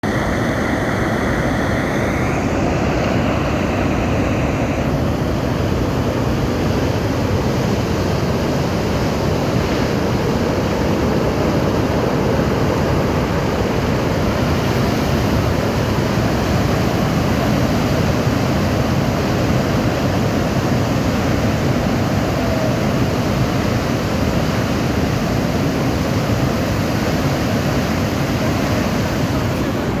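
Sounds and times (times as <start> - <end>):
river water rushing loudly: 0.0 - 30.0.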